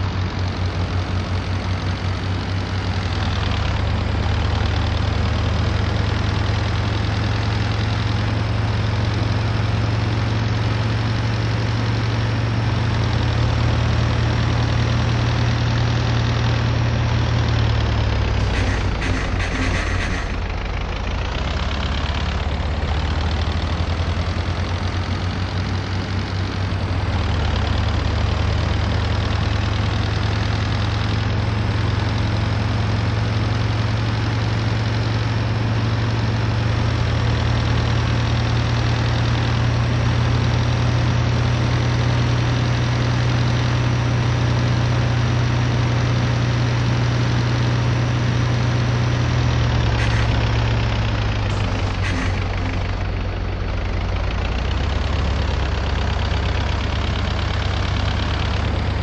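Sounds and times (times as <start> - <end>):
bus diesel engine humming: 0.0 - 59.0.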